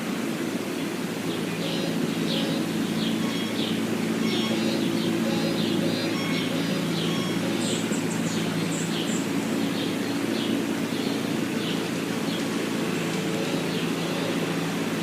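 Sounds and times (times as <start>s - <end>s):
low mechanical hum: 0.0s - 15.0s
birds chirping: 0.3s - 15.0s.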